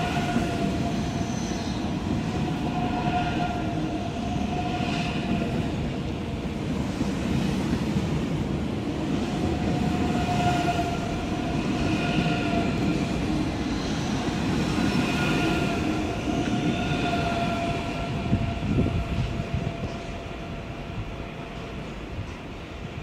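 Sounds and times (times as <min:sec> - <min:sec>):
faint train whine: 0:00.0 - 0:23.0
train wheels rumbling on rails: 0:00.0 - 0:23.0.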